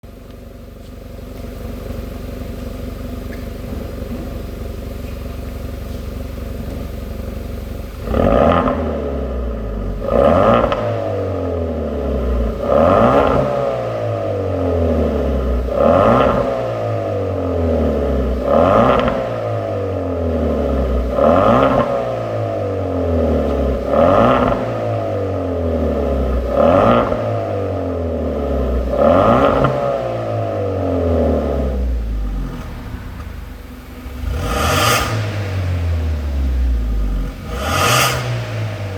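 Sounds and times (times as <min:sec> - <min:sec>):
car engine idling: 0:00.0 - 0:38.9
car engine revving: 0:01.3 - 0:38.9.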